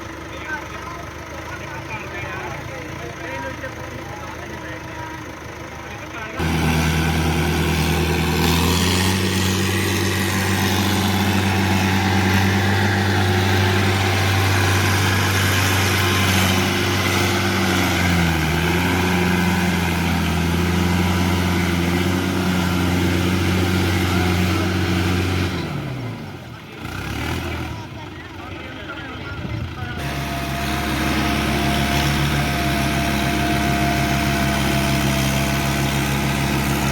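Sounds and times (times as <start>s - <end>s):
tractor engine running: 0.0s - 36.9s.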